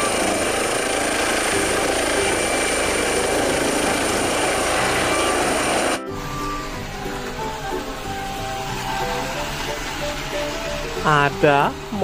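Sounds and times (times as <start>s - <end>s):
helicopter rotors and engines: 0.0s - 12.0s
high turbine whine: 0.0s - 12.0s.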